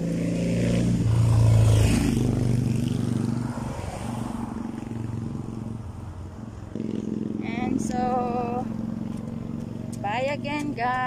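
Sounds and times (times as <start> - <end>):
motorcycle passing: 0.0 - 11.0.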